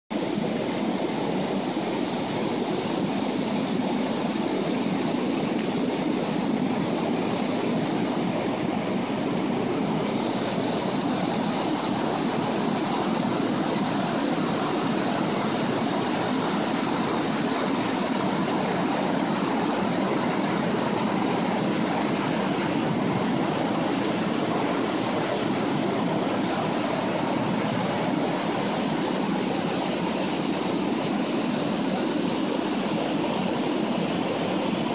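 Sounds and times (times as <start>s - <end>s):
floodwater rushing over weir: 0.1s - 34.9s.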